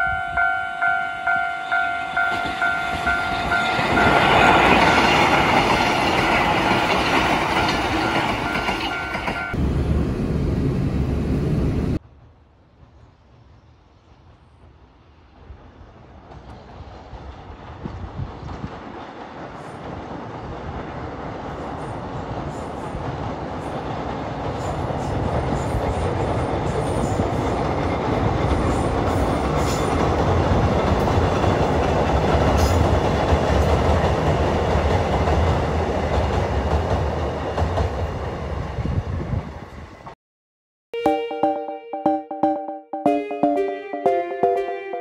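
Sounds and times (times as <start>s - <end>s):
electric train passing: 0.0s - 40.1s.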